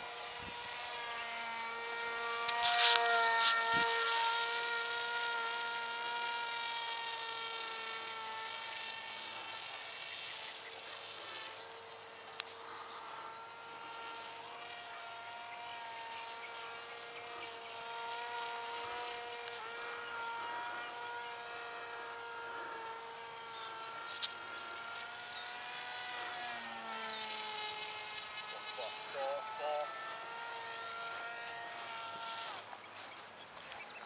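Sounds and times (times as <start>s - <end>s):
model airplane motor buzzing: 0.0s - 34.0s.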